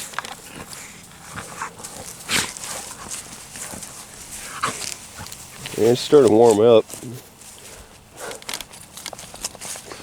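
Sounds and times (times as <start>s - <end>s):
dog rustling in grass: 0.0s - 8.0s.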